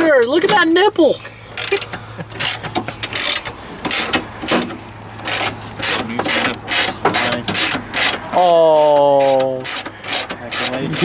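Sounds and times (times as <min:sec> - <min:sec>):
hand tools clicking on metal: 0:01.5 - 0:11.0.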